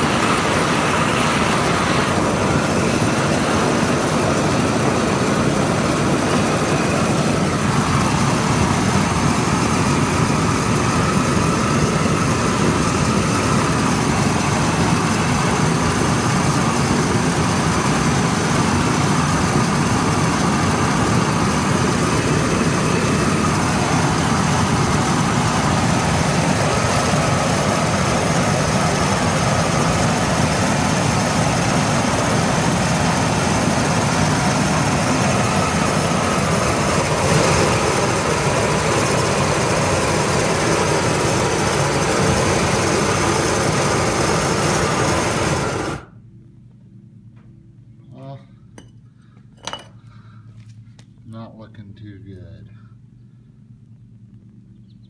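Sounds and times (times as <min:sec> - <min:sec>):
propane torch roaring: 0:00.0 - 0:46.2.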